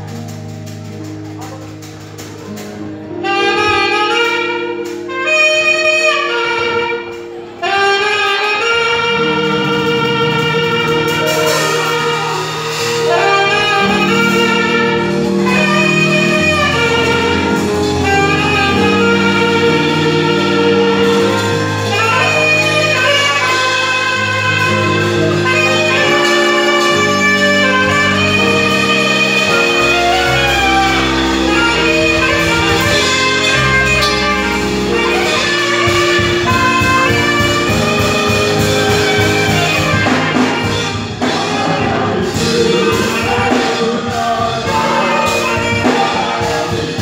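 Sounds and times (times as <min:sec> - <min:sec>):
instrumental carol music: 0:00.0 - 0:47.0.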